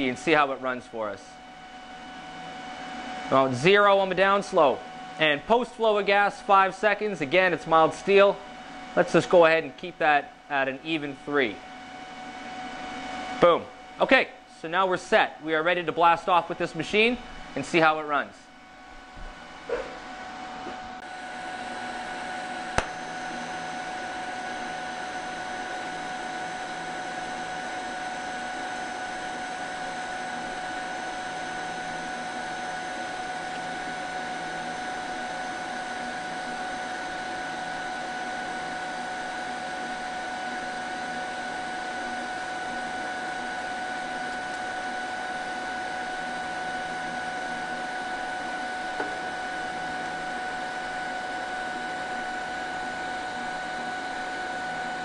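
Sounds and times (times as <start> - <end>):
welding arc hiss and whine: 0.0 - 55.0.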